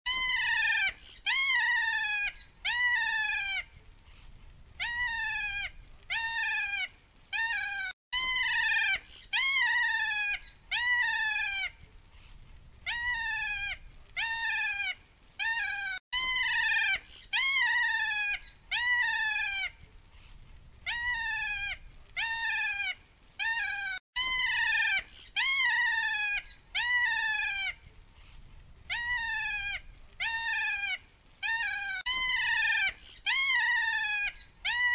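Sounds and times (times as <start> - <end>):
parrot shrill mewing cries: 0.1 - 3.6, 4.8 - 11.7, 12.8 - 19.7, 20.8 - 27.8, 28.9 - 34.9.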